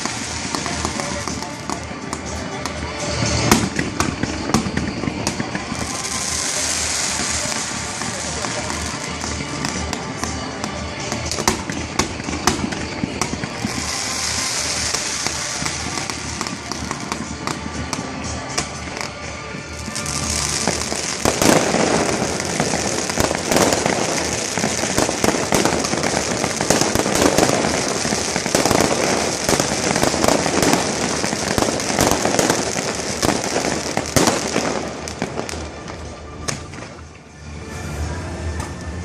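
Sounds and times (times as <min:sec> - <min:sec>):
fireworks bangs: 0:00.0 - 0:37.2
fireworks crackle: 0:00.0 - 0:37.7.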